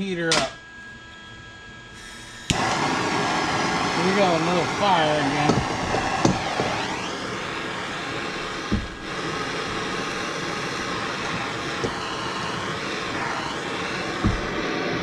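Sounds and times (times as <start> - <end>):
gas torch hissing: 1.9 - 15.0.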